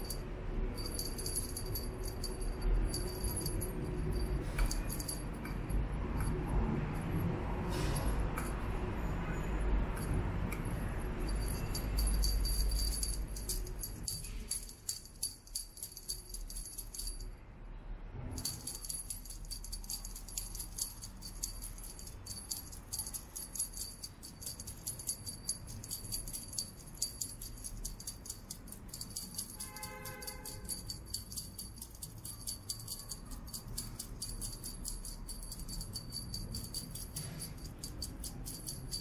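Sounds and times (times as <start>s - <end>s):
small bell jingling: 0.0s - 17.3s, 18.4s - 39.0s.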